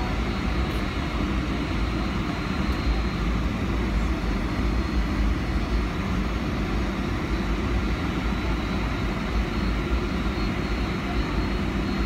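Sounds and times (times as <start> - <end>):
jet engines rumbling with whine: 0.0 - 12.0.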